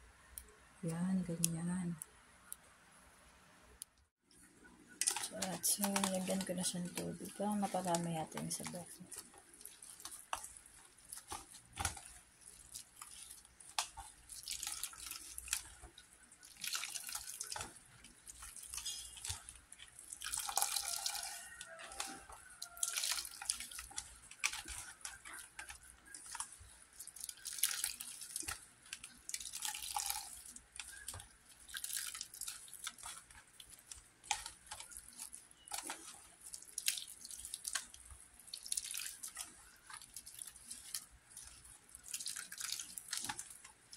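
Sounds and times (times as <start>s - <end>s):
hands squeezing wet coconut: 3.8s - 43.9s.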